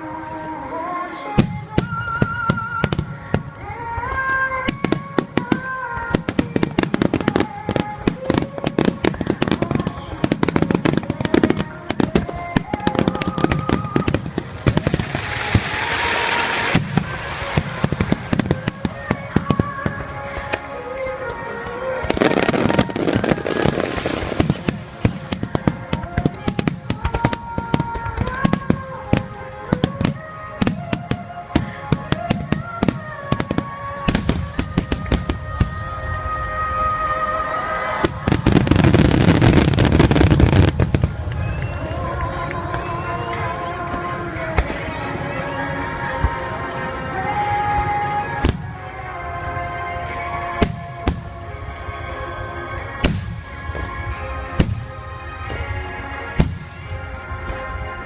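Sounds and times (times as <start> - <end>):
music playing: 0.0 - 58.0
fireworks bangs and crackle: 1.1 - 58.0.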